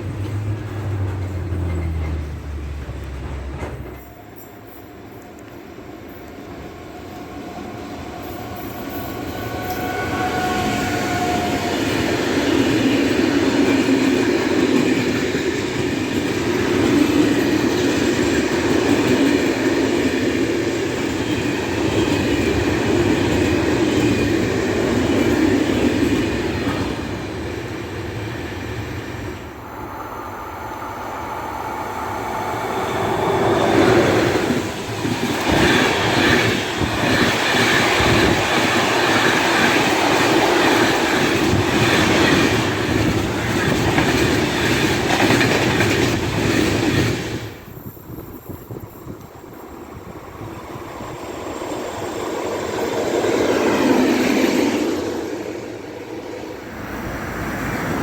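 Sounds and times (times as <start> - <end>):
train wheels clattering on track: 0.0 - 29.5, 32.0 - 56.6.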